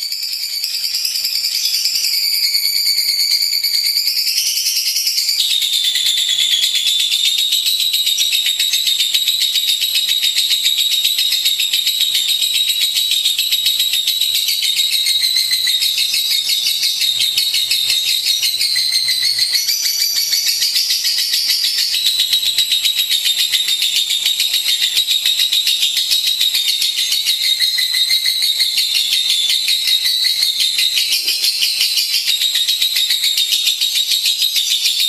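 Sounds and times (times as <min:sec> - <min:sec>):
lovebird chattering trill: 0:04.5 - 0:35.0.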